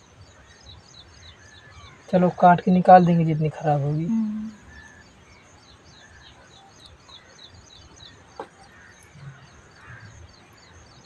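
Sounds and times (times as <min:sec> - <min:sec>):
bird chirping: 0:00.0 - 0:11.0
faint outdoor noise: 0:00.0 - 0:11.0.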